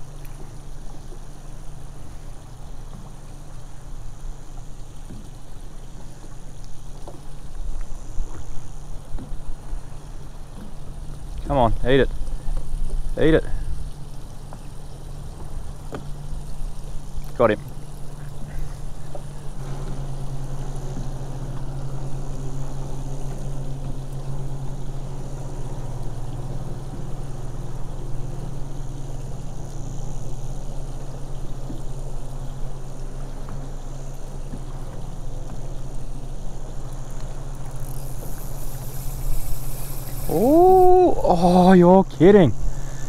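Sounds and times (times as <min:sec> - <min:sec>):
outboard motor idling: 0:00.0 - 0:43.0
water lapping against hull: 0:00.0 - 0:43.0.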